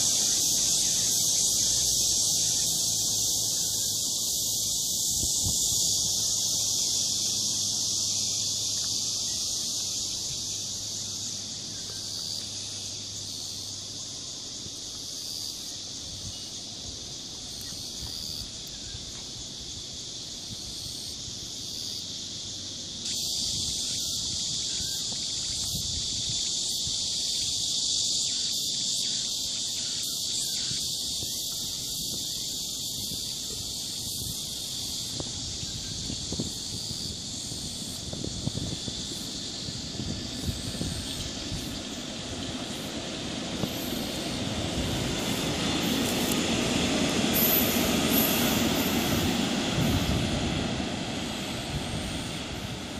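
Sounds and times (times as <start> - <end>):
high-pitched insect chorus: 0.0 - 52.9.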